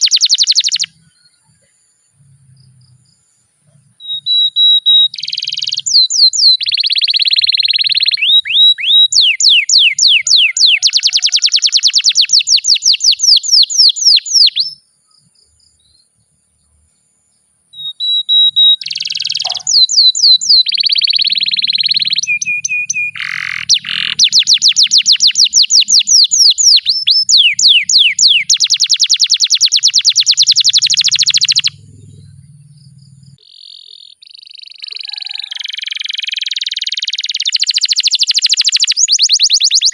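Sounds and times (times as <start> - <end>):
canary singing trills: 0.0 - 17.1, 17.7 - 39.9.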